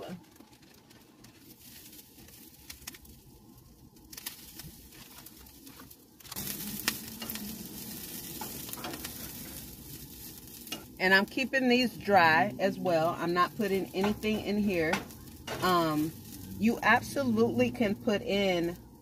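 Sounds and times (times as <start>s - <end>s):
greens sizzling in oil: 0.0s - 19.0s
utensil stirring in pan: 0.9s - 19.0s.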